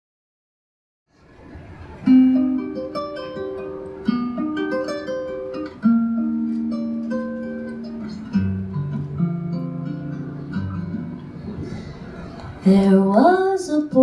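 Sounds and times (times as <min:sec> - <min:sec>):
acoustic guitar picked notes: 0:01.2 - 0:14.0
plucked guitar chords: 0:01.8 - 0:14.0.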